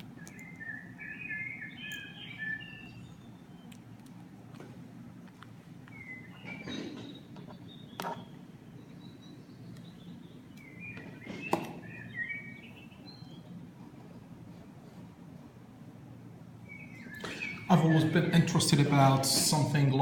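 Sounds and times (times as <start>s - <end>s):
small birds twittering: 0.0s - 15.0s, 16.5s - 20.0s
low background hum: 0.0s - 20.0s.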